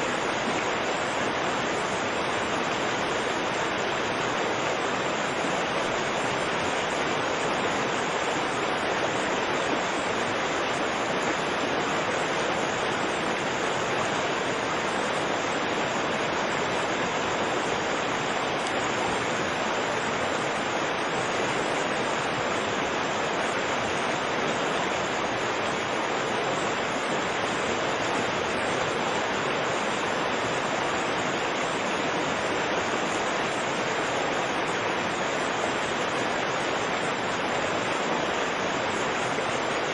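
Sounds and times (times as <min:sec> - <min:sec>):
river rushing over rapids: 0:00.0 - 0:39.9.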